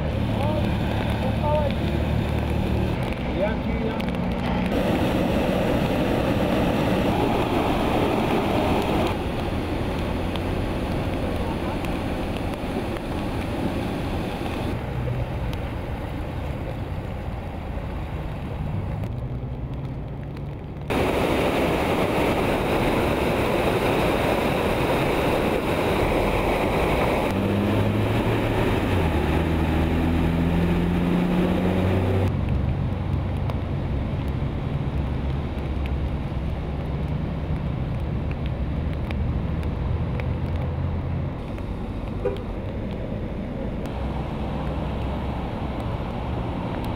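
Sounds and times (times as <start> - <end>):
steady rushing noise: 0.0 - 46.9.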